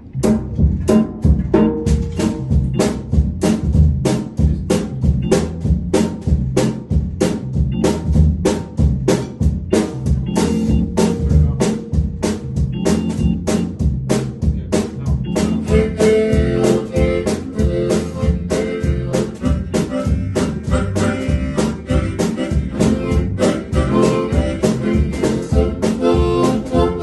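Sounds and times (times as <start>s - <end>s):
drum kit beat: 0.0s - 27.0s
low keyboard chords: 0.0s - 27.0s.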